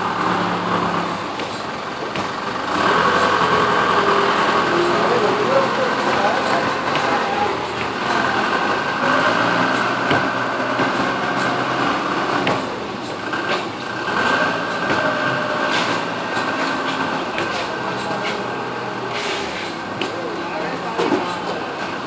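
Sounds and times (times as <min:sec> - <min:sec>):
forklift engine running: 0:00.0 - 0:22.0.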